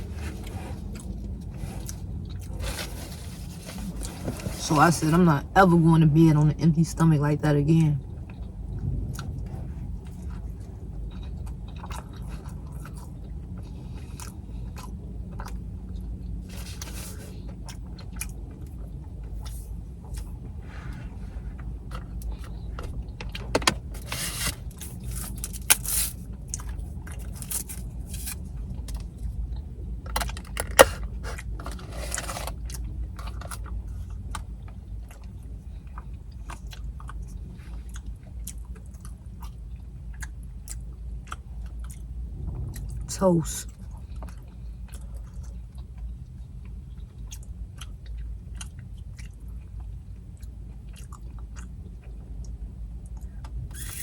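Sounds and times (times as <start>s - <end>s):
person chewing and crunching: 0.0s - 4.6s, 8.1s - 20.4s, 21.6s - 42.1s, 43.7s - 54.0s
steady low hum: 0.0s - 54.0s.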